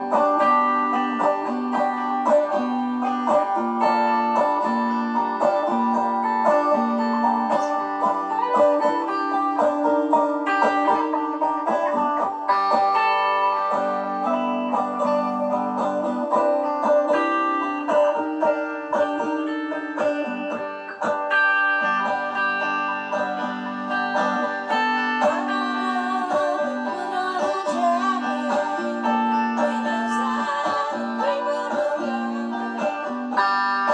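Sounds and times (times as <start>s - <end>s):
electric banjo: 0.0s - 33.9s
electric guitar: 0.0s - 33.9s.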